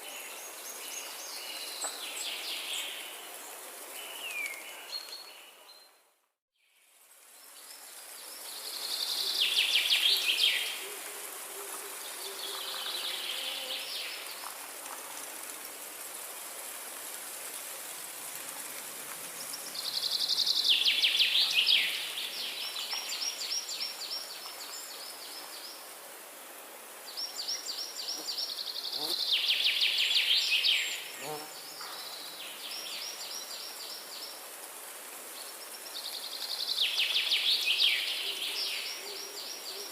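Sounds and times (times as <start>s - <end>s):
steady high hiss: 6.8s - 39.9s.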